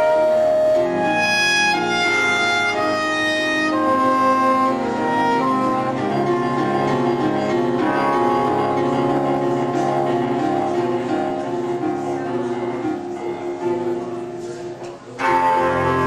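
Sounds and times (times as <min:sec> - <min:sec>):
avant-garde ensemble music: 0:00.0 - 0:16.0.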